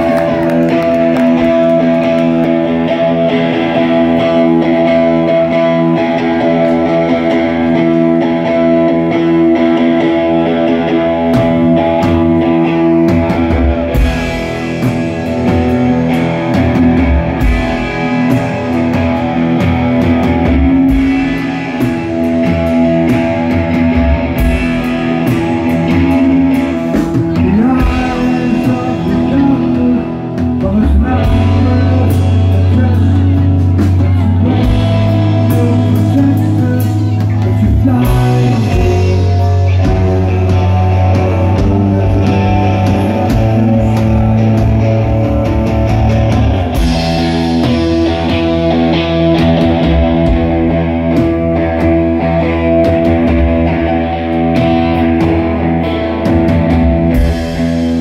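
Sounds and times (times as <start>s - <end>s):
drum kit: 0.0s - 58.0s
ringing guitar chords: 0.0s - 58.0s
rock band playing: 0.0s - 58.0s.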